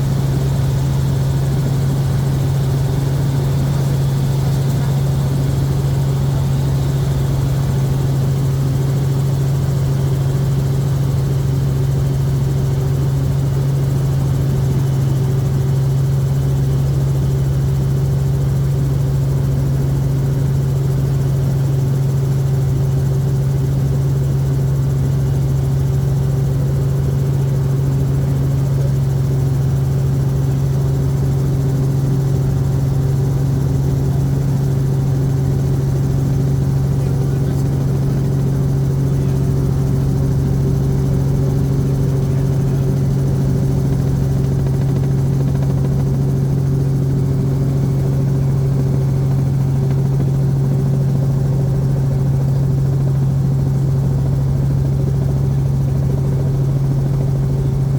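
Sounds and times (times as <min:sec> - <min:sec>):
helicopter cabin drone: 0:00.0 - 0:57.9.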